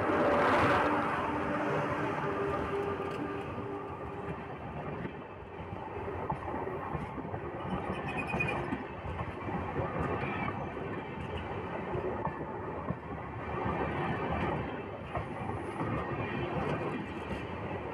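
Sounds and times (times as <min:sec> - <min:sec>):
train wheels rumbling on track: 0:00.0 - 0:17.9.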